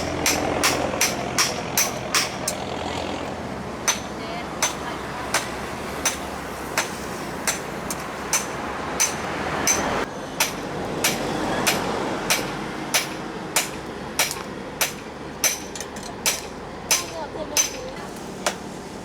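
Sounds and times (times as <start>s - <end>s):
hammer striking metal: 0.0s - 2.6s, 3.8s - 18.6s.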